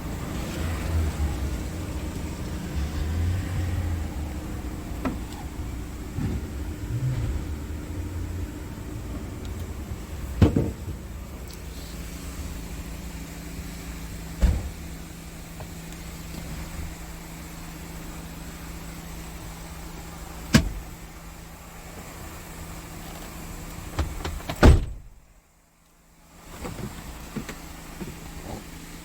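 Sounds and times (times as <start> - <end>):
diesel engine idling: 0.0 - 24.2.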